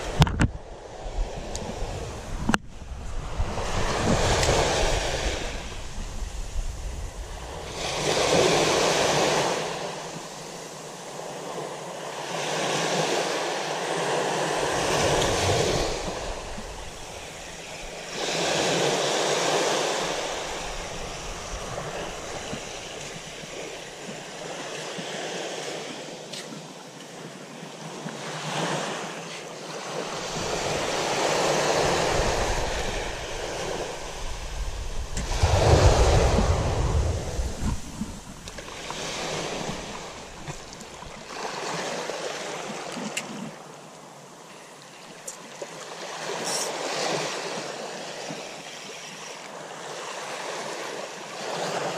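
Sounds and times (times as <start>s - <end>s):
small waves breaking on beach: 0.0s - 51.9s.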